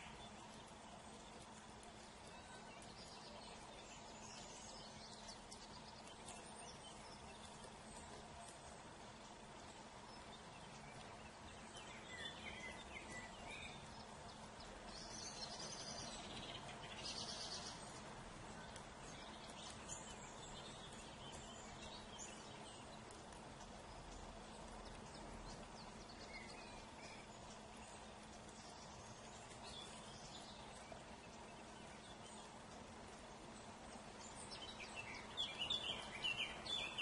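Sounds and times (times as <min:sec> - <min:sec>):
faint outdoor hiss: 0:00.0 - 0:37.0
small birds singing: 0:00.0 - 0:37.0.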